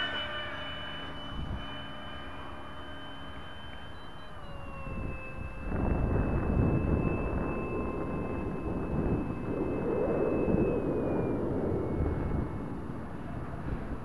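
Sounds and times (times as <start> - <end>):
model jet whine flying past: 0.0 - 14.0.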